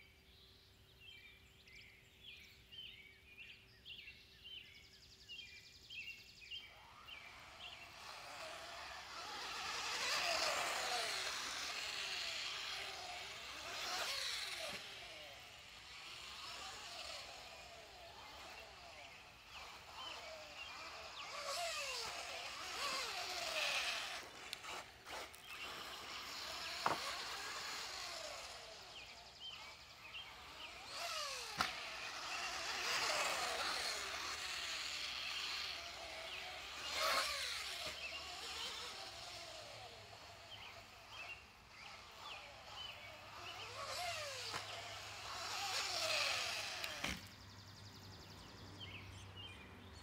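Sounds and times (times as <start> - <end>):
rc car motor whining: 5.1 - 49.6
tyres hissing on dirt: 7.3 - 47.4.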